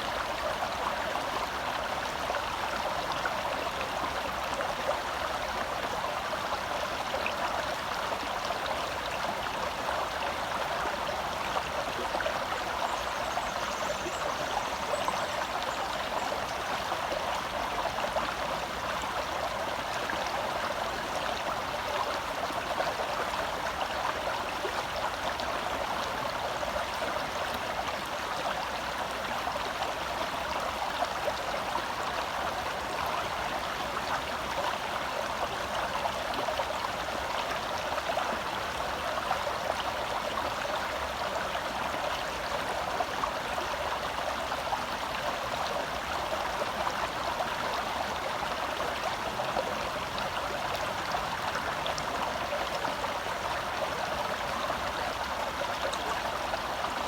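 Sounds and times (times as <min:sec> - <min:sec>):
stream burbling over rocks: 0:00.0 - 0:57.0.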